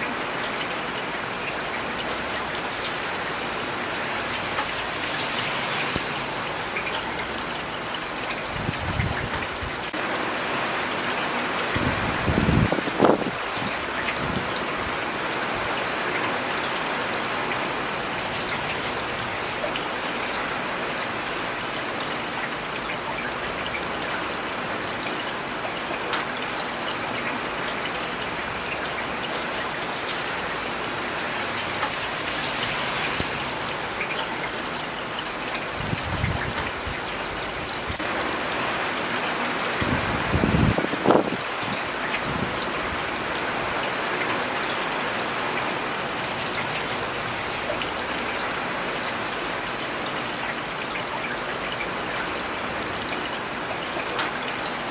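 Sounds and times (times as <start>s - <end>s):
rain on hard surfaces: 0.0s - 54.9s.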